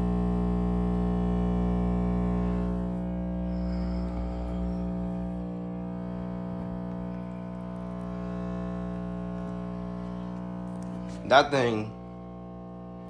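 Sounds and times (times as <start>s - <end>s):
heat pump electrical hum: 0.0s - 13.0s.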